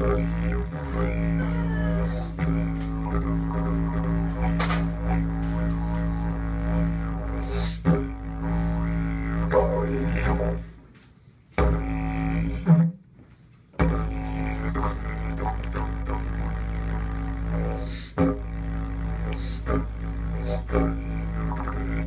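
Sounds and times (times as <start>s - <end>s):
didgeridoo drone: 0.0s - 10.8s, 11.6s - 13.0s, 13.8s - 22.0s.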